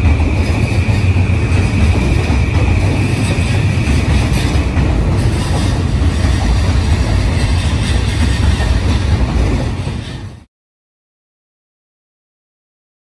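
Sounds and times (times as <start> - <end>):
electric train rumbling: 0.0 - 10.5.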